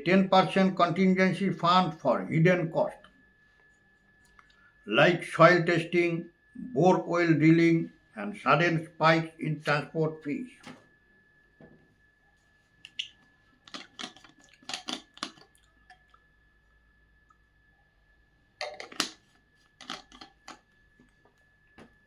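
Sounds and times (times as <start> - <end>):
faint high-pitched whine: 0.0 - 22.0.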